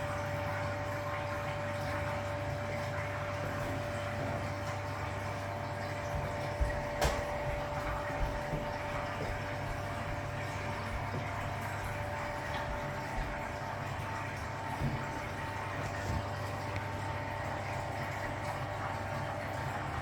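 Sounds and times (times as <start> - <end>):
washing machine pump hum: 0.0 - 20.0
water rushing through pump: 0.0 - 20.0.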